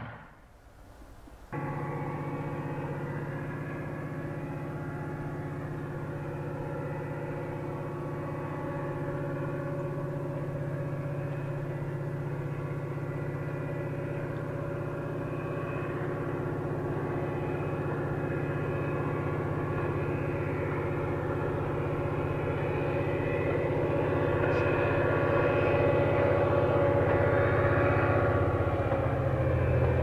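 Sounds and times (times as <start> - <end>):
distant diesel train engine: 0.0 - 30.0.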